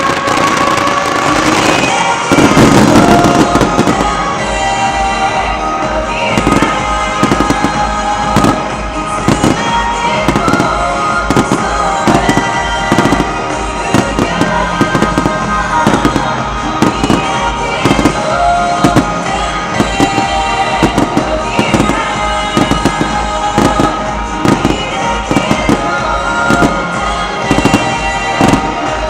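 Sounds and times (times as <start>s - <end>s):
fireworks bursting: 0.0s - 29.0s
music over loudspeakers: 0.0s - 29.0s.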